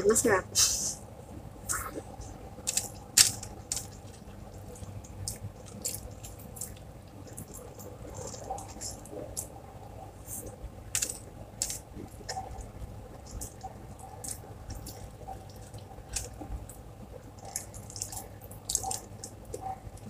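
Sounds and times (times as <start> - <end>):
person chewing food: 1.7 - 20.0.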